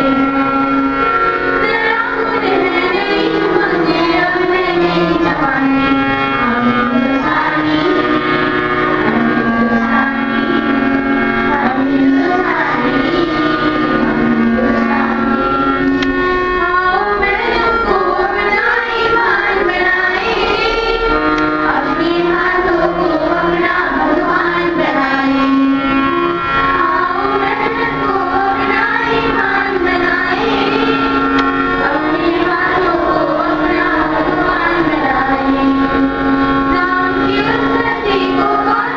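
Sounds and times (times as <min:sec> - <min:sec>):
children singing in chorus: 0:00.0 - 0:38.9
instrumental accompaniment: 0:00.0 - 0:38.9.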